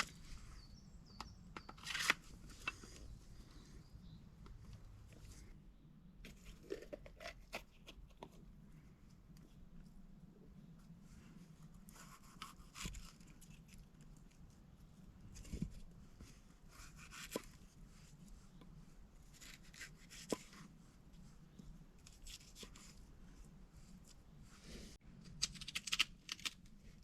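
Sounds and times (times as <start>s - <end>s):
rustling and crinkling: 0.0s - 3.8s, 6.2s - 27.0s.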